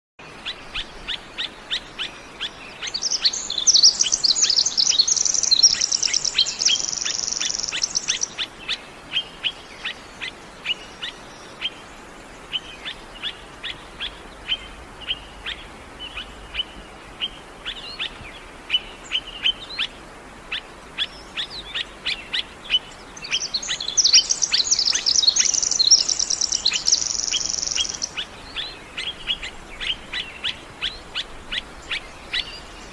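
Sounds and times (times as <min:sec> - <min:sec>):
bird warbling song: 0:00.2 - 0:32.9
songbirds chirping: 0:00.2 - 0:32.9.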